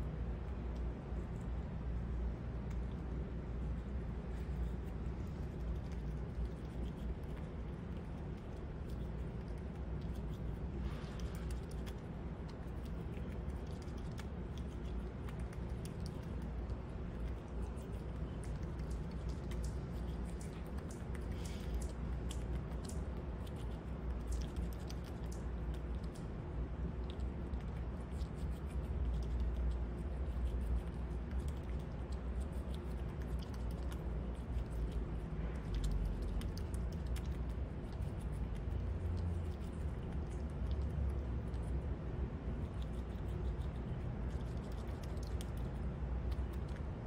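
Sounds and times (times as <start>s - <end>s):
low background rumble: 0.0s - 47.0s
squirrel chewing clicks: 2.6s - 47.0s.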